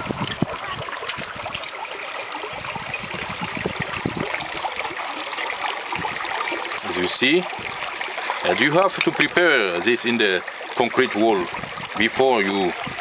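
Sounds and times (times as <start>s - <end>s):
water trickling in canal: 0.0s - 13.0s.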